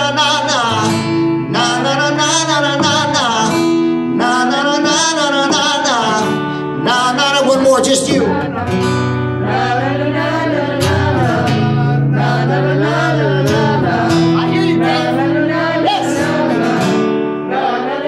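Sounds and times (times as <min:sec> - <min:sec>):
man singing: 0:00.0 - 0:08.8, 0:10.8 - 0:17.1
acoustic guitar chords: 0:00.0 - 0:18.0.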